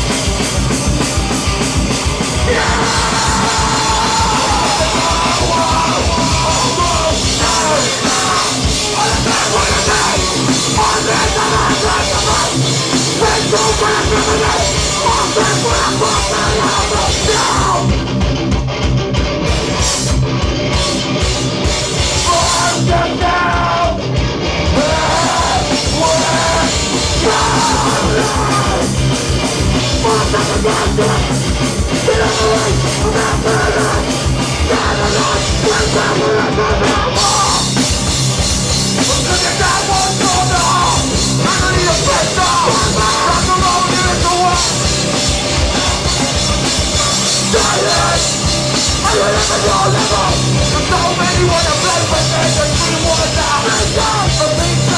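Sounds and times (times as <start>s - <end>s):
distorted guitars: 0.0s - 54.9s
rapid drumming: 0.0s - 54.9s.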